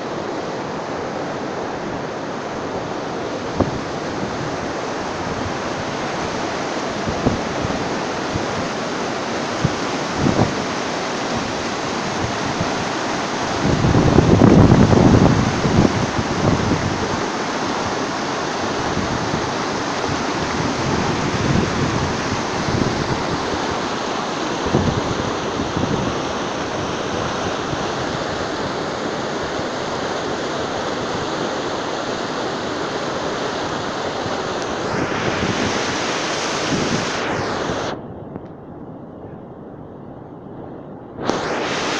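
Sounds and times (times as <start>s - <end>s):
water rushing over boulders: 0.0s - 38.0s.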